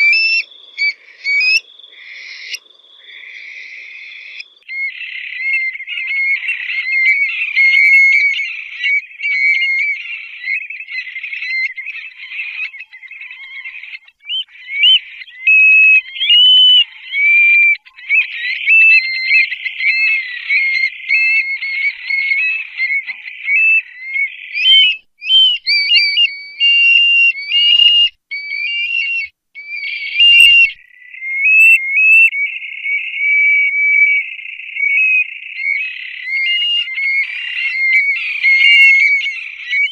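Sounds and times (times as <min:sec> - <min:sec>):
birds calling high whistled notes: 0:00.0 - 0:39.9.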